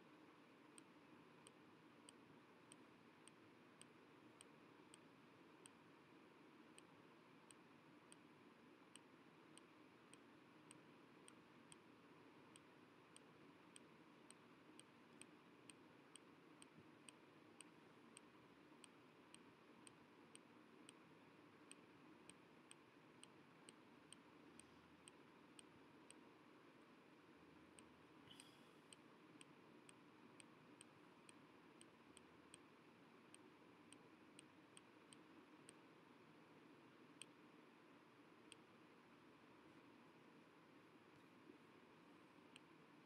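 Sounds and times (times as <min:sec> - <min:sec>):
soft regular ticking: 0:00.0 - 0:43.0.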